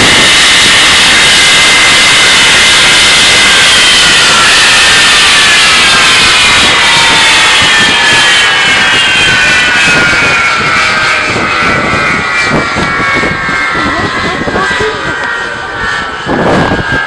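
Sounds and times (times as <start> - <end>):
jet engine roar and whine: 0.0 - 17.0.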